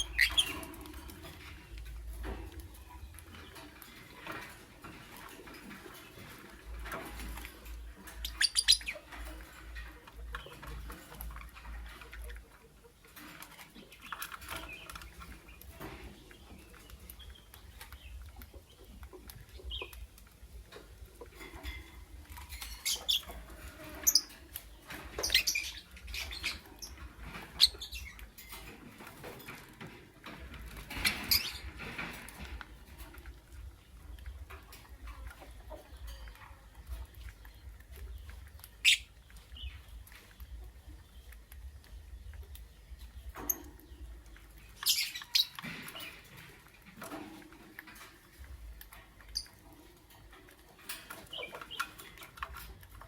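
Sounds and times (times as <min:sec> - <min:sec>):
light clicking and scratching: 0:00.0 - 0:53.0
lovebirds chirping and squeaking: 0:00.0 - 0:53.0.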